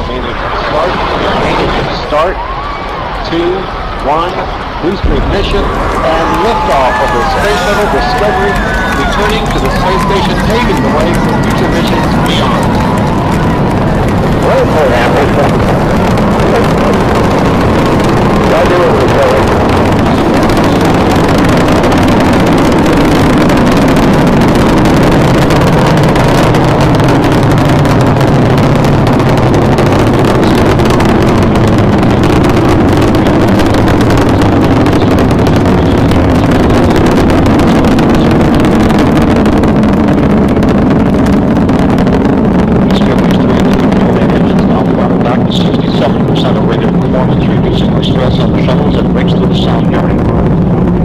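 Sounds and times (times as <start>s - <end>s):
rocket engines roaring: 0.0s - 51.0s.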